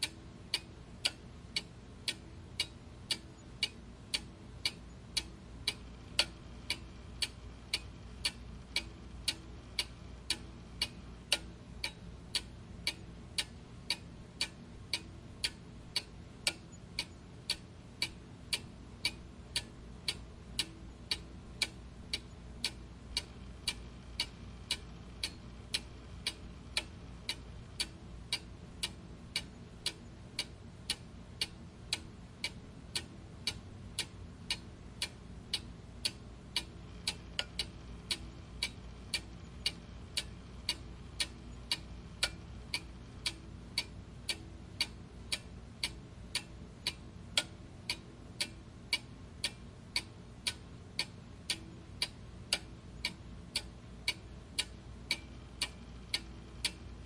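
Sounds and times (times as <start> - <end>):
clock ticking: 0.0 - 57.0
faint low background noise: 0.0 - 57.0.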